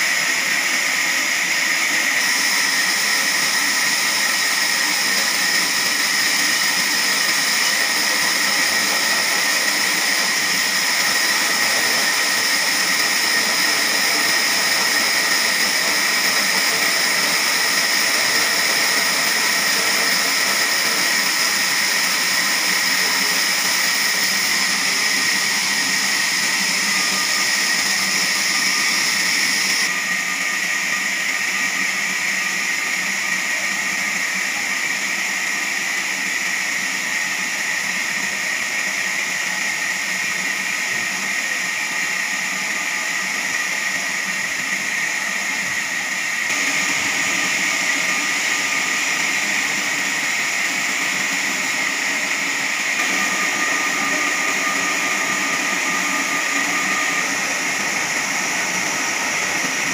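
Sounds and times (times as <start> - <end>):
band saw blade whining in wood: 0.0 - 59.9.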